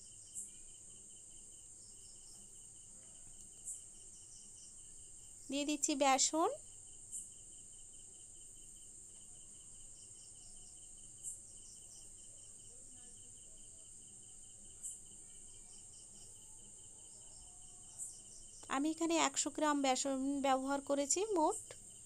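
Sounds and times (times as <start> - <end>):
insects buzzing: 0.0 - 22.0
pulsing insect chirp: 0.0 - 22.0.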